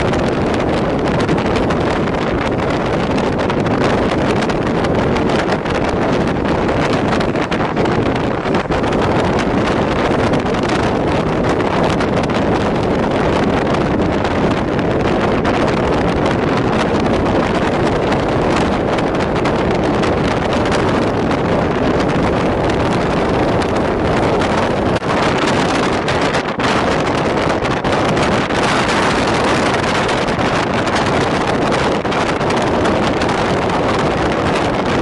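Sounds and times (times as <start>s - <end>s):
train rumbling at speed: 0.0s - 35.0s
wind buffeting microphone: 0.0s - 35.0s.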